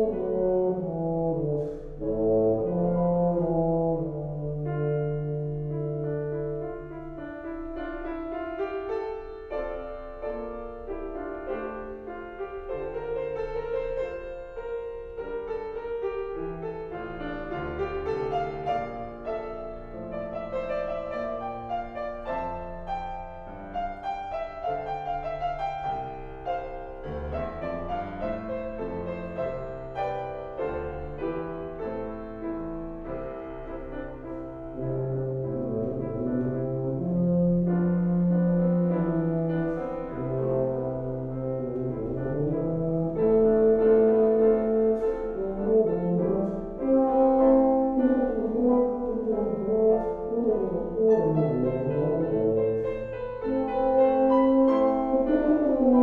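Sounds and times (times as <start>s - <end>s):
grand piano: 0.0s - 56.0s
tuba long low notes: 0.0s - 56.0s.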